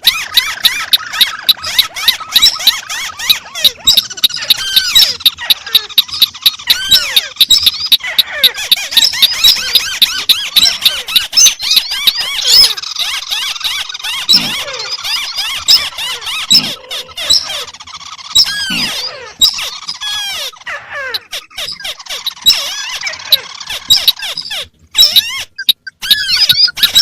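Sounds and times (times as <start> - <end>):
crakes calling with squeaky chirps: 0.0 - 27.0.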